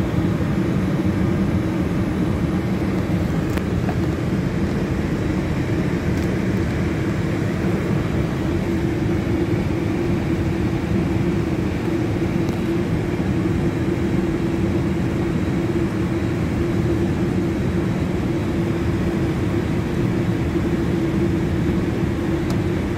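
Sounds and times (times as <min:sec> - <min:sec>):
cockpit ventilation drone: 0:00.0 - 0:22.9.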